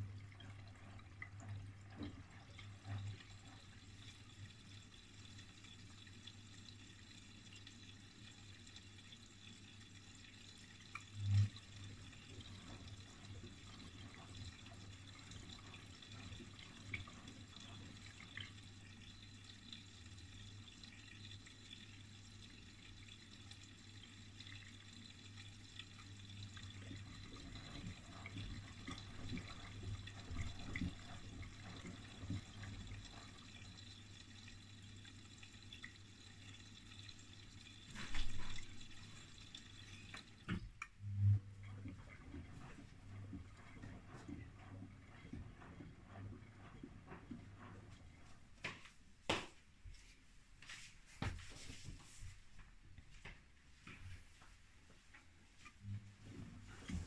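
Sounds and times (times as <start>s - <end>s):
water trickling and dripping: 0.0s - 50.1s
washing machine hum: 0.0s - 57.0s.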